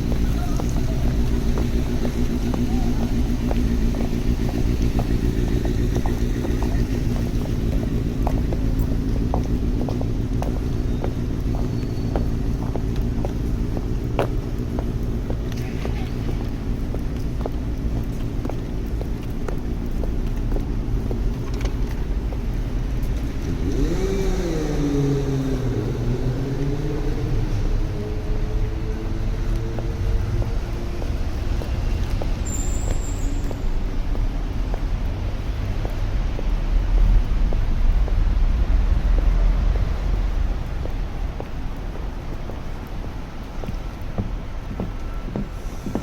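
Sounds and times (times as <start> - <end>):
road traffic rumble: 0.0 - 46.0
vehicle pulling away: 0.0 - 46.0.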